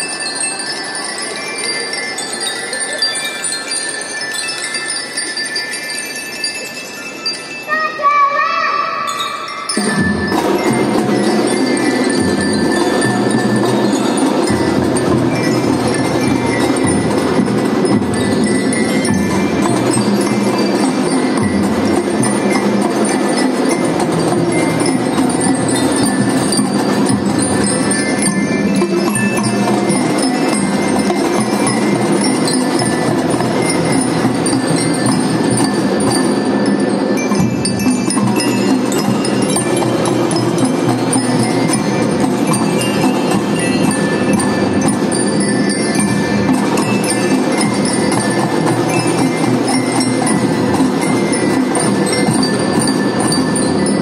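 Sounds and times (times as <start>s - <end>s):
glockenspiel melody: 0.0s - 54.0s.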